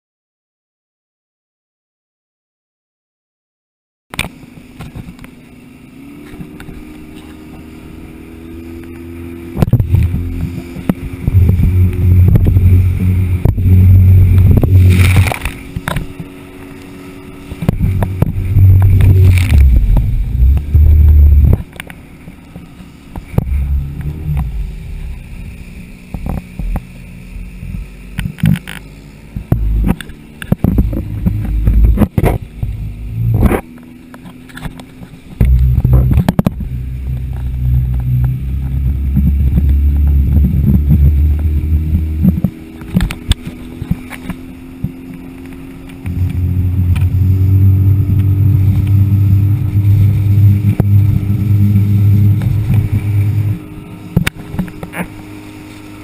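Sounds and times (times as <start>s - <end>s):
speedboat motor droning: 4.1s - 56.0s
wind rumbling on microphone: 4.2s - 56.0s.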